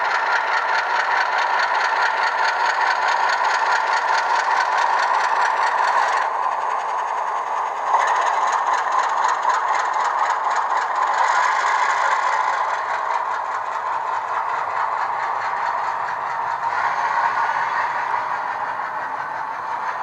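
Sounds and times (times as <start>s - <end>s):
locomotive engine sound from speaker: 0.0s - 20.0s
model wheels clattering on track: 0.0s - 20.0s.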